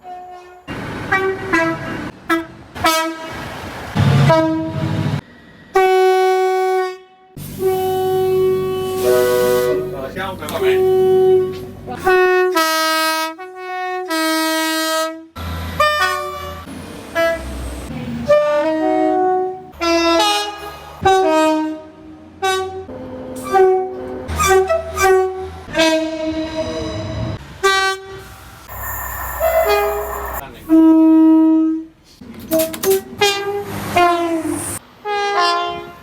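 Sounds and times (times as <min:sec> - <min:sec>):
train horn blasts: 0:00.0 - 0:03.4, 0:04.2 - 0:04.9, 0:05.7 - 0:10.0, 0:10.7 - 0:16.6, 0:18.3 - 0:31.8, 0:33.2 - 0:36.0
low rumble of trains: 0:00.0 - 0:36.0.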